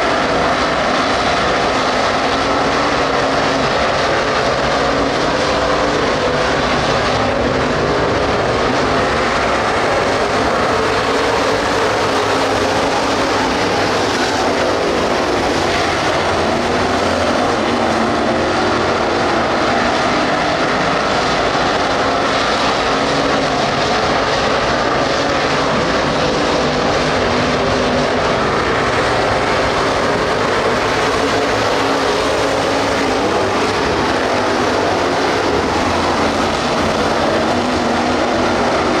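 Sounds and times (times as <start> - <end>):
race car engines droning: 0.0 - 39.0.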